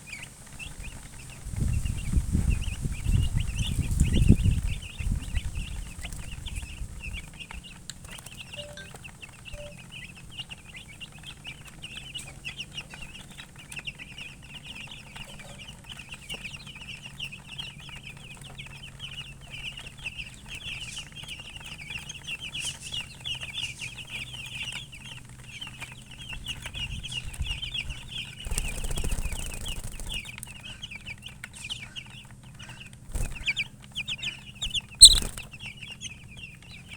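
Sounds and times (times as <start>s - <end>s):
baby chicks peeping: 0.0s - 36.9s.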